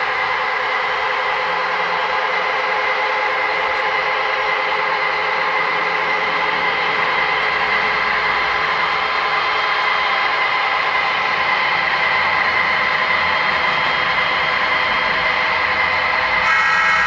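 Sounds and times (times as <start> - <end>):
model train wheels rolling on rails: 0.0 - 17.0.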